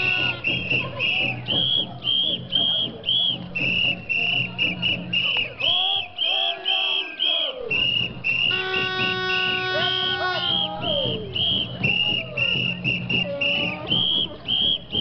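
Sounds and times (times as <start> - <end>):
murmur of crowd: 0.0 - 15.0
whistles blown in marching rhythm: 0.0 - 15.0.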